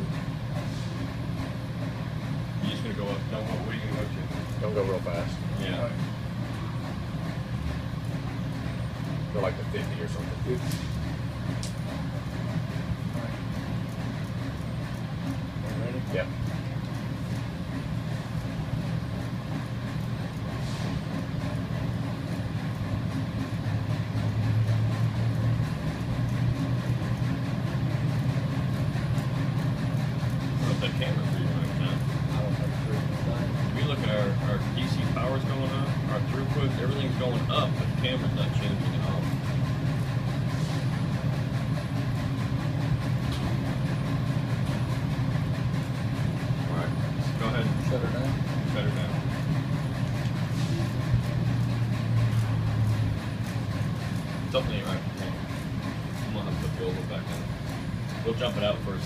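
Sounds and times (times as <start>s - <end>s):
industrial furnace hum: 0.0s - 59.0s
machinery noise: 0.0s - 59.0s.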